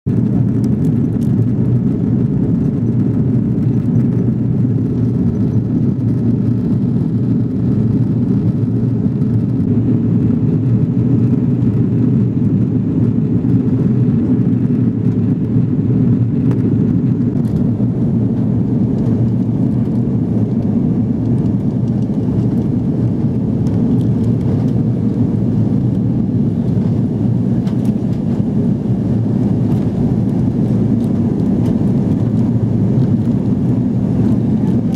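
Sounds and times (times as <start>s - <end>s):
airliner cabin drone: 0.1s - 34.9s.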